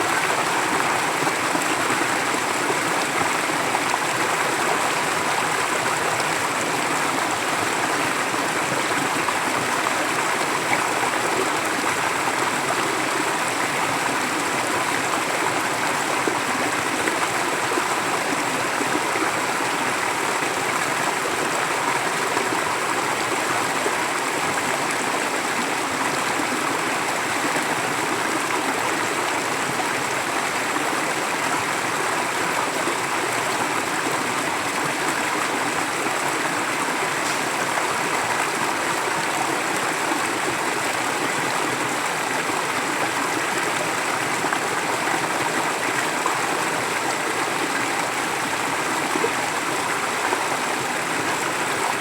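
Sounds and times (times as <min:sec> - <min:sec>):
stream flowing over rocks: 0:00.0 - 0:52.0.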